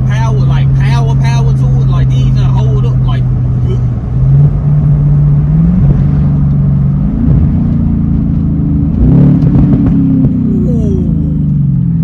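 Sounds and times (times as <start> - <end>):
car engine exhaust drone: 0.0 - 12.0.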